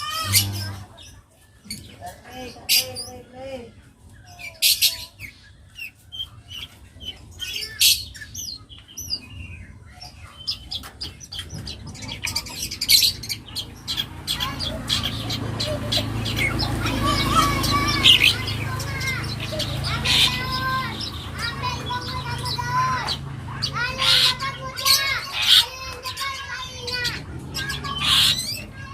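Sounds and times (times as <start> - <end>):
bird singing varied chirps: 0.0 - 3.3, 4.3 - 28.9.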